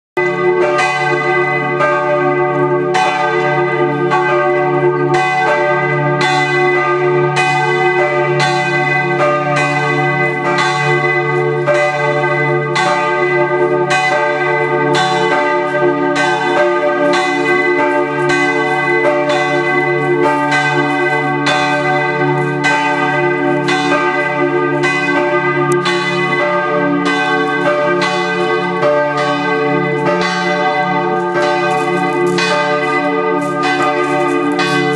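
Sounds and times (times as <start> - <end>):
church bells ringing: 0.2 - 34.9.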